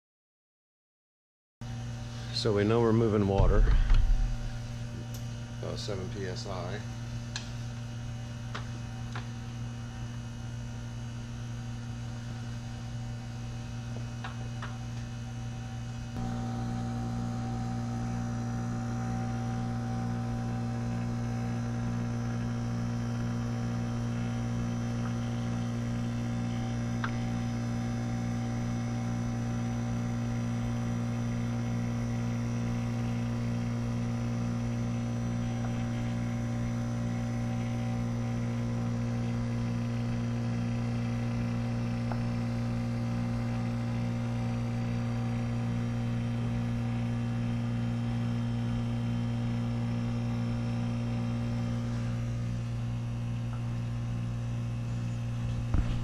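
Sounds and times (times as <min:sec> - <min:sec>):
heat pump humming: 0:01.6 - 0:56.0.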